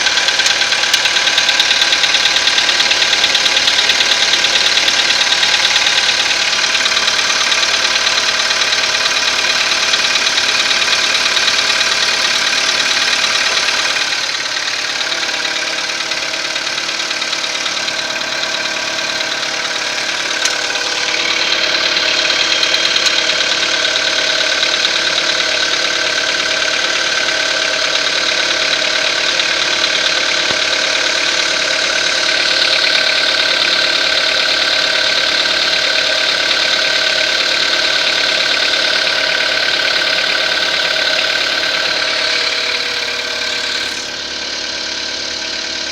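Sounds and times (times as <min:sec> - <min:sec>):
car engine running with a knock: 0:00.0 - 0:45.9.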